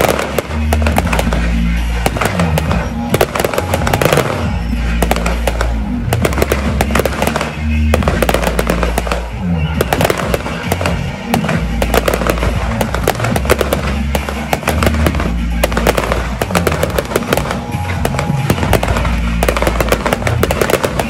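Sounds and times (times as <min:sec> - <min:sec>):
fireworks bangs and crackles: 0:00.0 - 0:21.0
music with bass line: 0:00.0 - 0:21.0.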